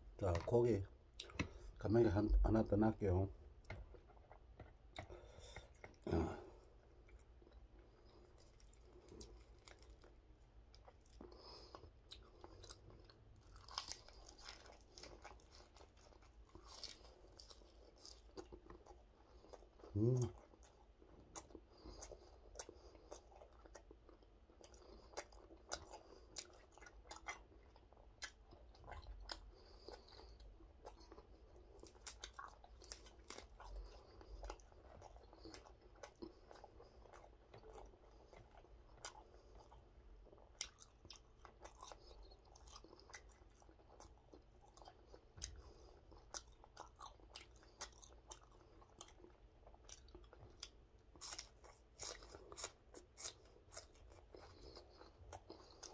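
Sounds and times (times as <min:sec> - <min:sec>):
chewing with wet mouth clicks: 0:01.1 - 0:01.6, 0:03.6 - 0:06.1, 0:06.9 - 0:55.9.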